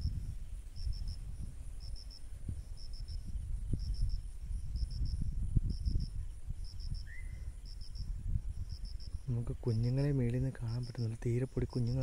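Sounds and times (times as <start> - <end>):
cricket chirping: 0.0 - 12.0
faint high insect hum: 0.0 - 12.0.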